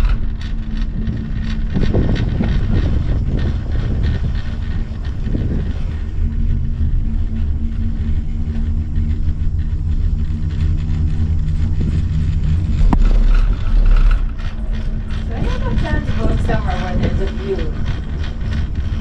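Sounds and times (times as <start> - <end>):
gondola cabin rumbling on cable: 0.0 - 19.0
steady droning tone: 0.0 - 19.0.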